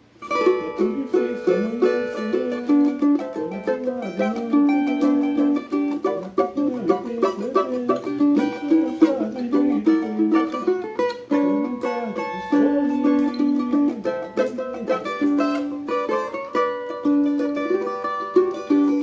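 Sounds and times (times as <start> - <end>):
small plucked string melody: 0.2 - 19.0.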